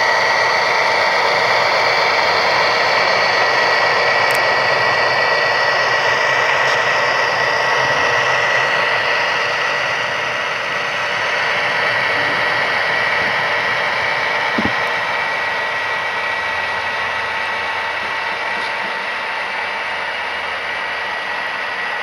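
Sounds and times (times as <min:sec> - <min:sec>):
model train motor humming and whining: 0:00.0 - 0:22.0.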